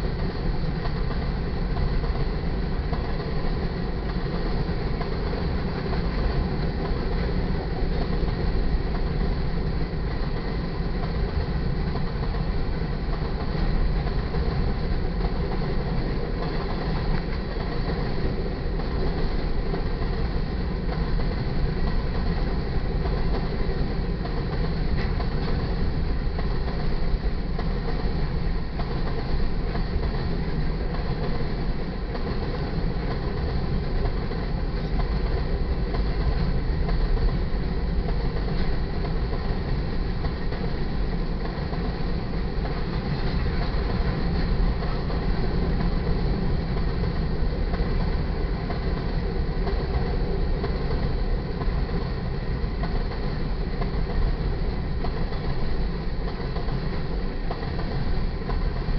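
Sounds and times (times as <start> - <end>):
freight train wheels rumbling: 0.0 - 58.9
wheels clickety-clack: 0.0 - 58.9.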